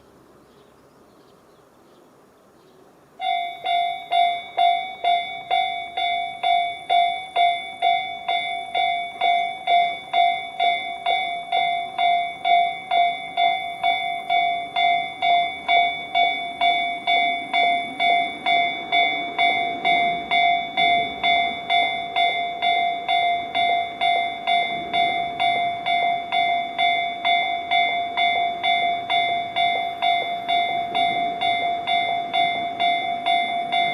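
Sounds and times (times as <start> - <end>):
approaching train rumble: 2.9 - 33.9
level crossing alarm bells: 3.2 - 33.9.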